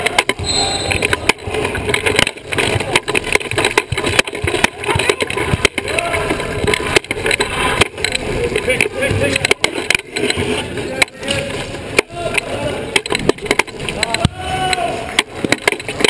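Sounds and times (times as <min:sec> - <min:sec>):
wheelchair rattling on hardwood court: 0:00.0 - 0:16.0.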